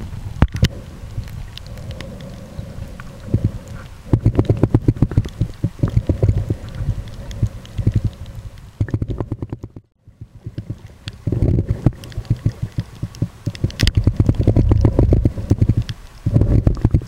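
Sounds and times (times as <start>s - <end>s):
muffled underwater rumbling: 0.0s - 17.0s.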